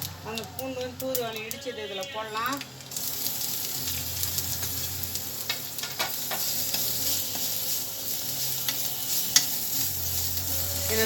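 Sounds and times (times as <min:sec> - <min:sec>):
frying sizzle with crackles: 0:00.0 - 0:11.0.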